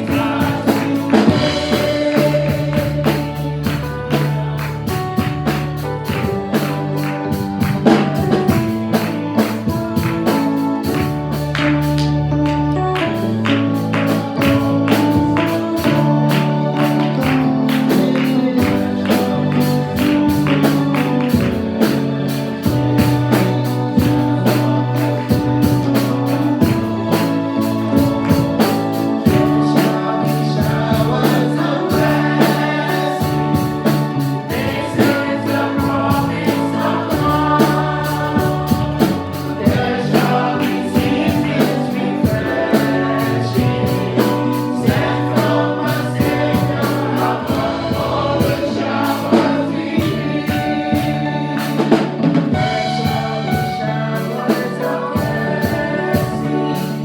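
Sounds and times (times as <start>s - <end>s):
gospel band playing: 0.0s - 57.0s
voices singing: 0.0s - 57.0s.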